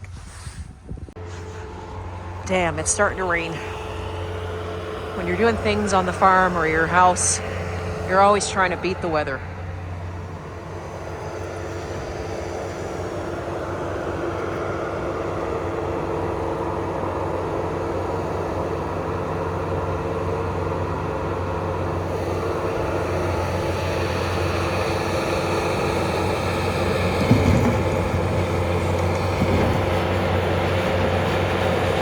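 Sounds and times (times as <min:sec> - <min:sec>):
engine humming: 0:00.9 - 0:32.0.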